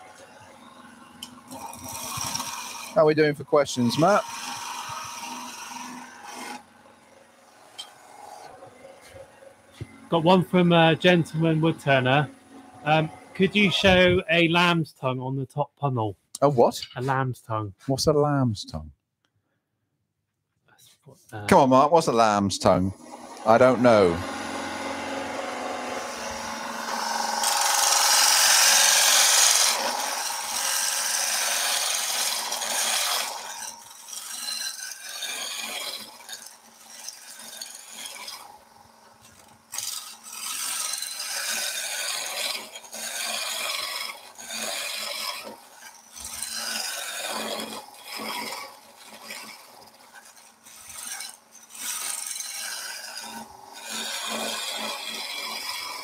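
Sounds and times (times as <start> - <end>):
lathe tool scraping wood: 0.0 - 14.8, 21.5 - 56.0.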